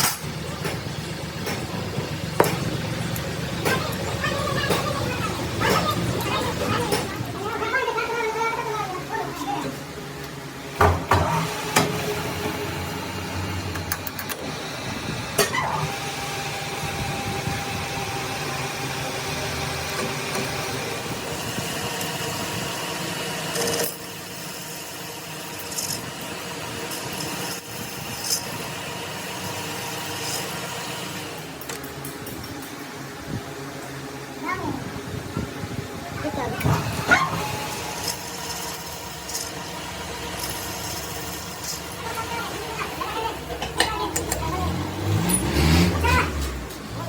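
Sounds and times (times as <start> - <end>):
machine running: 0.0 - 47.0.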